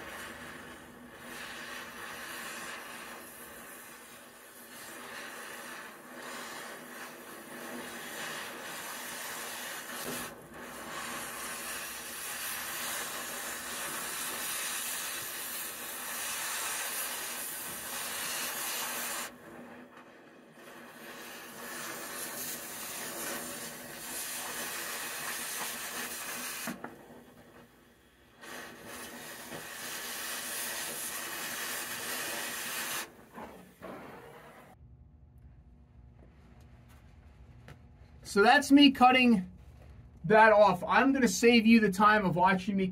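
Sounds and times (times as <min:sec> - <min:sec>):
cutting torch hissing: 0:00.0 - 0:34.8.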